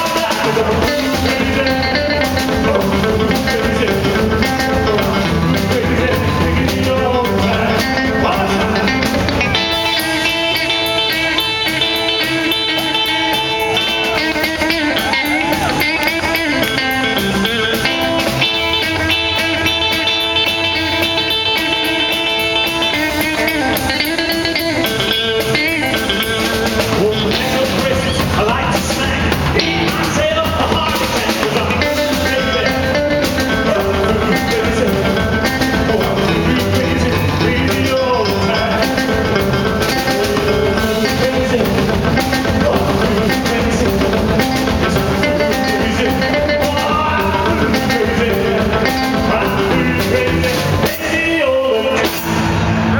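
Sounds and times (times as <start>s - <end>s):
drums: 0.0s - 52.9s
electric guitar notes: 0.0s - 52.9s
person singing: 0.0s - 52.9s.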